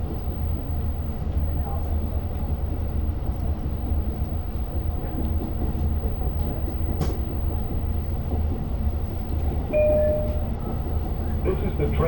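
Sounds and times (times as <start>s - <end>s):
train rumble inside coach: 0.0s - 12.0s.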